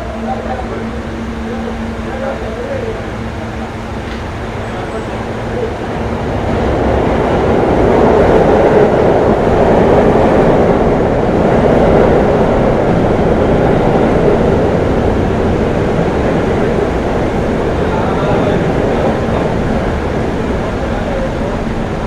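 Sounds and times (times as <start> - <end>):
subway train rumbling on tracks: 0.0 - 22.0.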